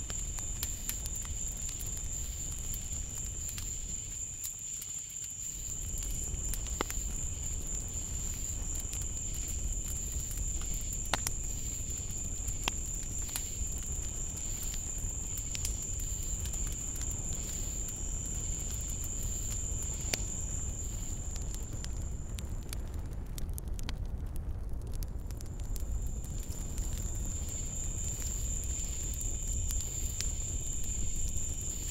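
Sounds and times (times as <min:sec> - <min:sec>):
insect chorus drone: 0:00.0 - 0:22.4, 0:25.7 - 0:31.9.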